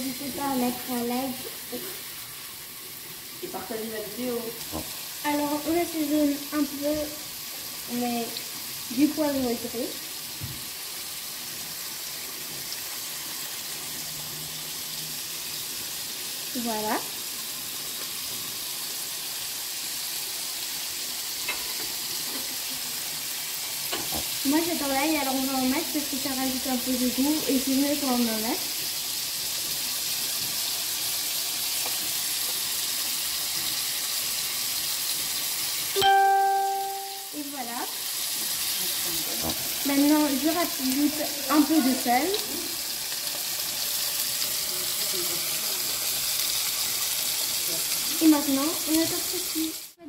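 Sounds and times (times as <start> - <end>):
patties sizzling in oil: 0.0 - 50.0.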